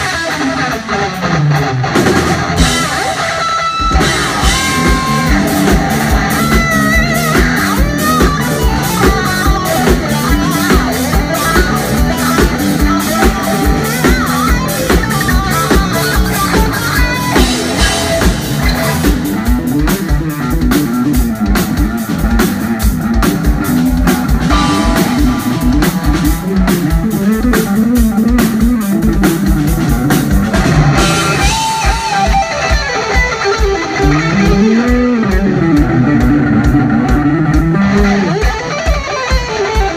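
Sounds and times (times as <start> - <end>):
drum kit beats: 0.0 - 39.9
electric bass line: 0.0 - 39.9
electric guitar: 0.0 - 39.9.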